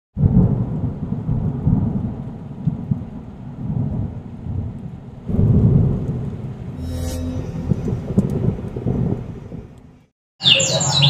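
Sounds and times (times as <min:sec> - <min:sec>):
thunder rumbling: 0:00.2 - 0:06.8, 0:07.5 - 0:09.8.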